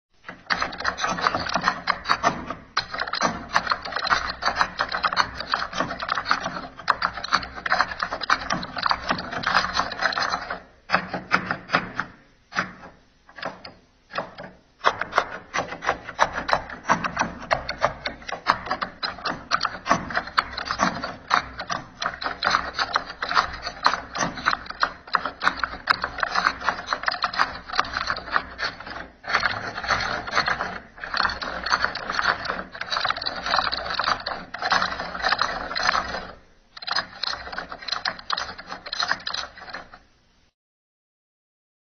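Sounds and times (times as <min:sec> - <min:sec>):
computer keyboard keys clattering: 0:00.3 - 0:12.1, 0:13.3 - 0:40.0.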